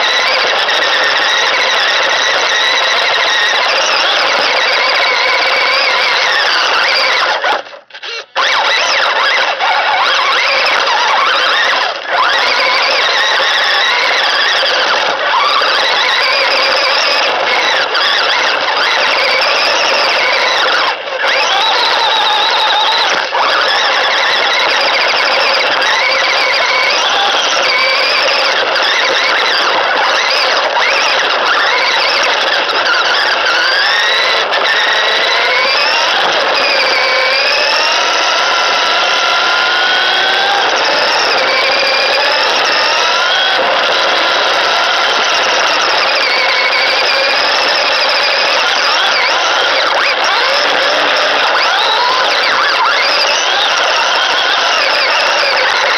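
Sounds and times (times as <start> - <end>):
electric motor and gears whining: 0.0 - 55.9.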